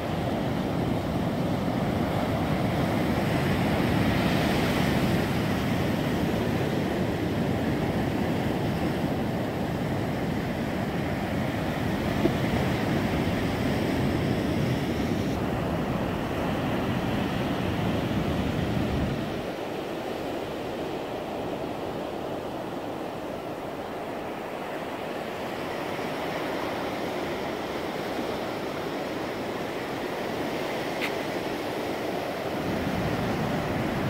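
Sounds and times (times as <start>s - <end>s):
surf washing on beach: 0.0s - 34.0s.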